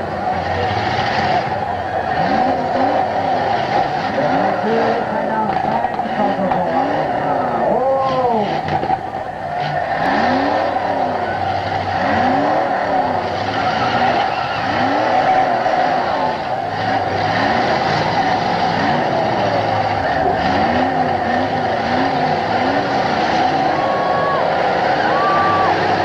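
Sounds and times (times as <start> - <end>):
car engines revving: 0.0 - 26.0
cars ramming: 0.0 - 26.0
tyres spinning: 0.0 - 26.0.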